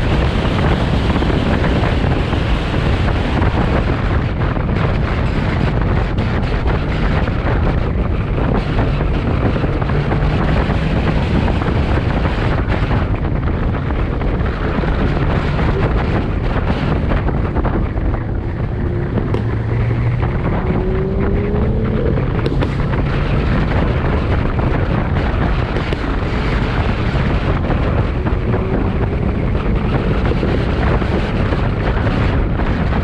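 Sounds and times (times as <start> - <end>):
car engine drone: 0.0 - 33.0
wind buffeting microphone: 0.0 - 33.0.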